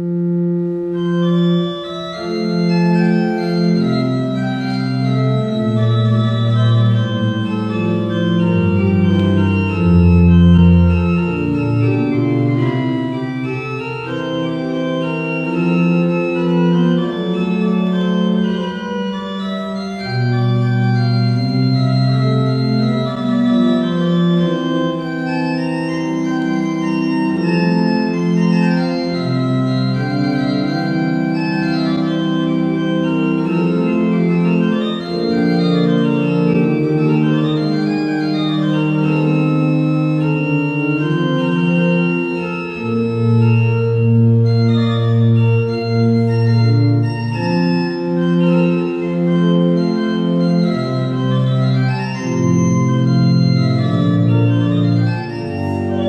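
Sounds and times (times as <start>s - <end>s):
church pipe organ playing: 0.0s - 56.0s.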